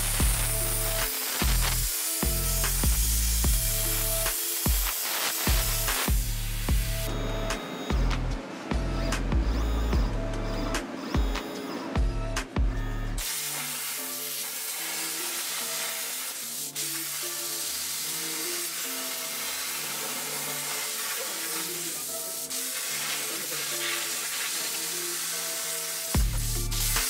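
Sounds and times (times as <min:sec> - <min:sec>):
plasma cutter torch hissing: 0:00.0 - 0:08.0, 0:13.2 - 0:27.0
background music: 0:00.0 - 0:27.0.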